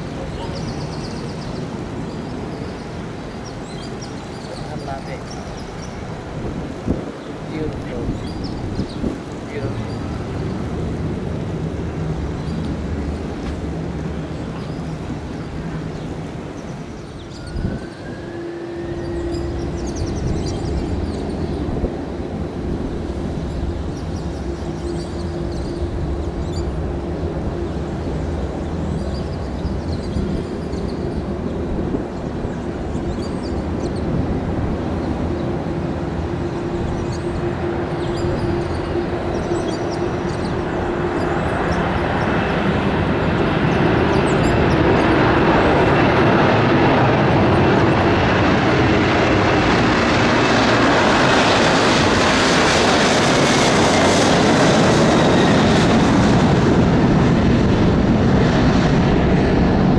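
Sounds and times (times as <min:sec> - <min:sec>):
airliner engines roaring: 0:00.0 - 0:59.9
faint high engine whine: 0:00.0 - 0:59.9.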